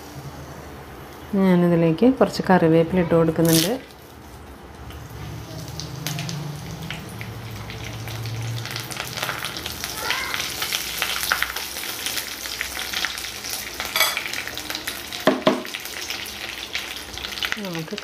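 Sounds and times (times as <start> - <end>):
leaves sizzling in hot oil: 3.4 - 18.0.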